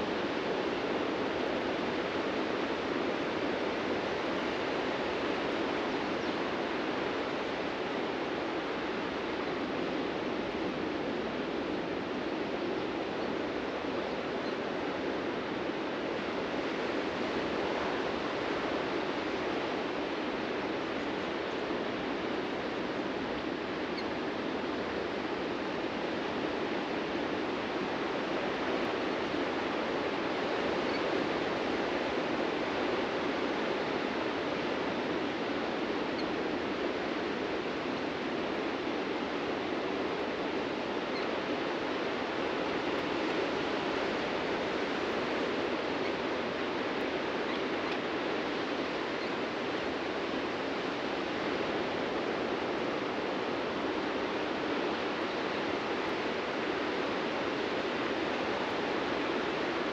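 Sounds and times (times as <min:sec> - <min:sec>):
ocean surf washing on beach: 0:00.0 - 0:59.9.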